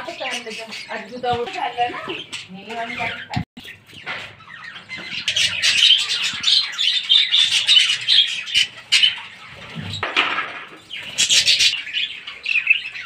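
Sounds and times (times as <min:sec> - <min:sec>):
budgerigars chattering: 0:00.0 - 0:10.0, 0:10.8 - 0:13.0.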